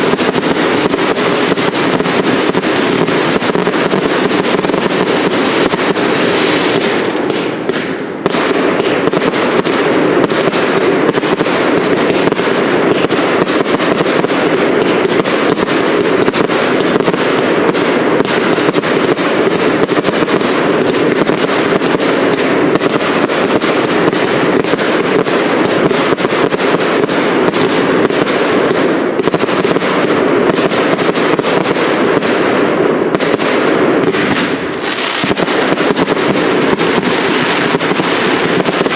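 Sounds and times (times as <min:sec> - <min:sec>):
fireworks rapid bangs: 0:00.0 - 0:38.9.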